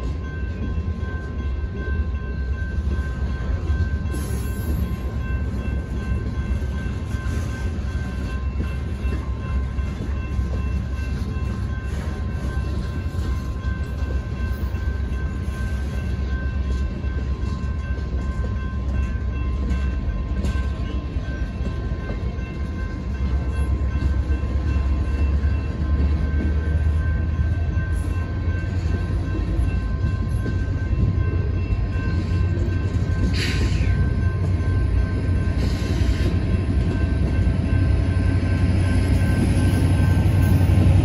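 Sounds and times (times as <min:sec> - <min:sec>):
freight cars rumbling on rail: 0:00.0 - 0:41.0.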